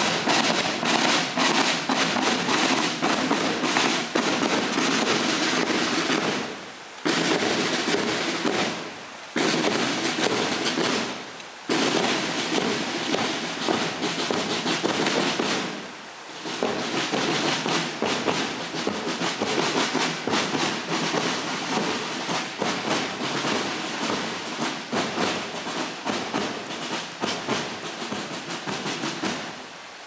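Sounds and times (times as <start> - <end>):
marching footsteps on pavement: 0.0 - 30.0.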